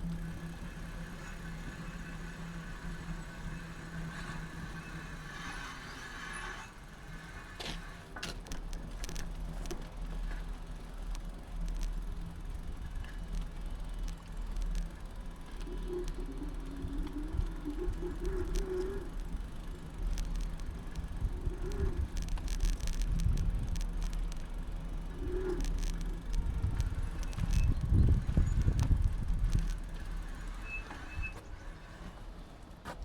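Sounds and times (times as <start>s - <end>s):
bicycle rattles and clicks: 0.0s - 33.0s
bicycle tyres rumbling on road: 0.0s - 33.0s.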